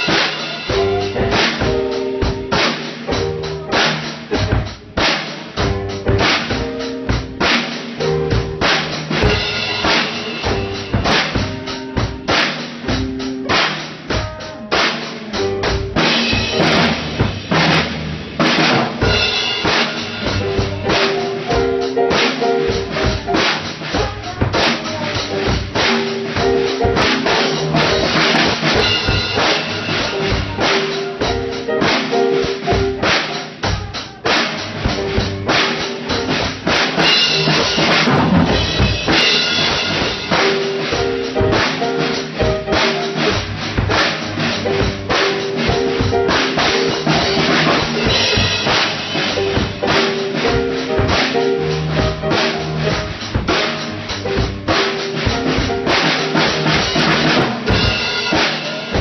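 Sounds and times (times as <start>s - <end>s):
band playing: 0.0s - 59.0s
drum kit beat: 0.0s - 59.0s
held keyboard notes: 0.0s - 59.0s.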